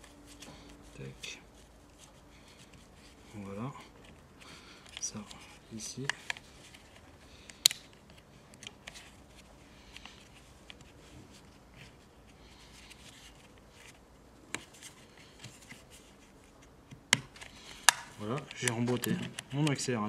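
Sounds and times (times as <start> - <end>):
small clicks and scrapes of hands: 0.0 - 20.0.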